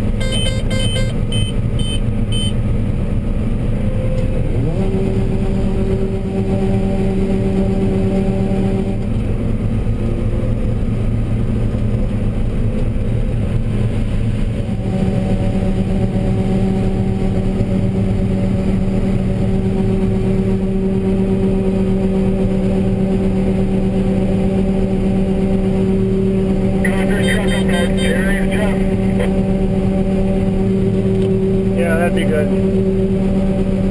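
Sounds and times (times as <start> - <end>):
combine machine drone: 0.0 - 33.9
strong hum: 0.0 - 33.9.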